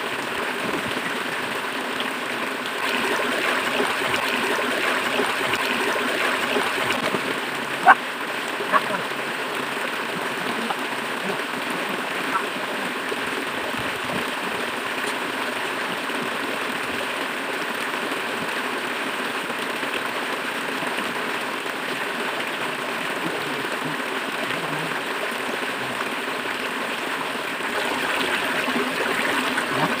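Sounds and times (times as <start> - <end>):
river water running: 0.0 - 30.0.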